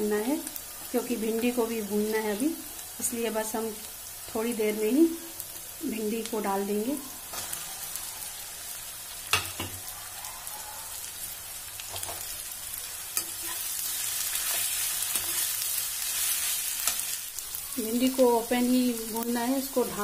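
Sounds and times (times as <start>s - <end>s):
okra sizzling in oil: 0.0s - 20.0s.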